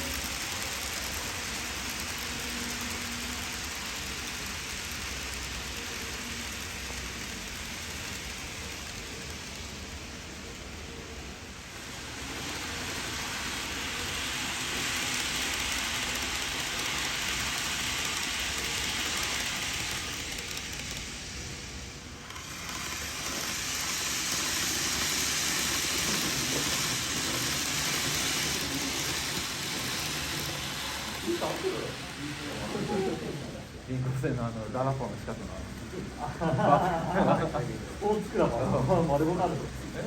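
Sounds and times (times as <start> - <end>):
model train wheels rattling: 0.0 - 36.2.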